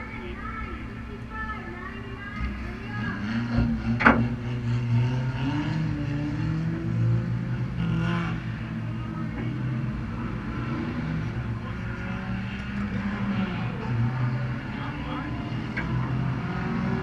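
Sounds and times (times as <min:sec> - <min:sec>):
race car engine drone: 0:00.0 - 0:17.0.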